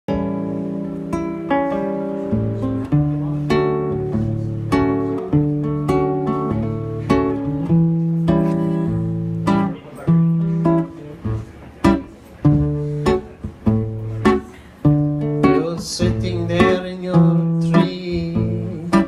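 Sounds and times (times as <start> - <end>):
acoustic guitar strumming chords: 0.1 - 19.0.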